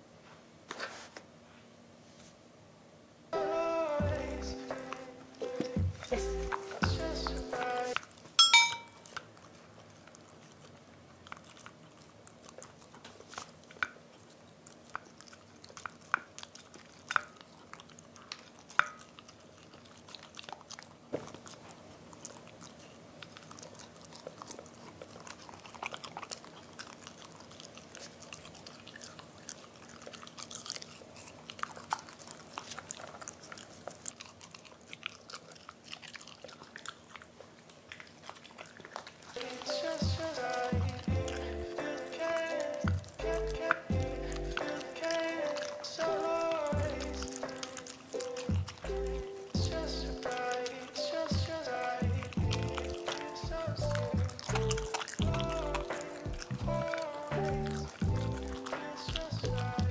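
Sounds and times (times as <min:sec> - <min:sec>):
dog licking wet mouth clicks: 0:09.0 - 0:59.9.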